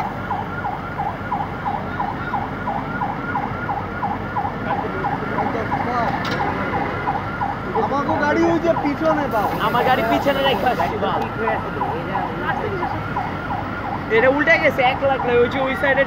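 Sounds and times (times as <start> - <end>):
emergency siren yelping: 0.0 - 16.0.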